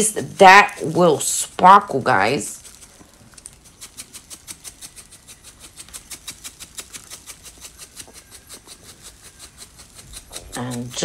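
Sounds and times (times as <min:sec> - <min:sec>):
glitter rattling in shaken jar: 0:00.0 - 0:11.0.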